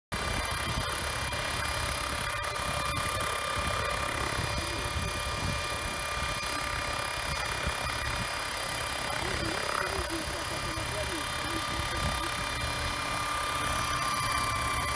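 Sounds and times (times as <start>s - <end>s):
electric drive high whine: 0.1s - 14.9s
rotor low rumble: 0.2s - 14.9s.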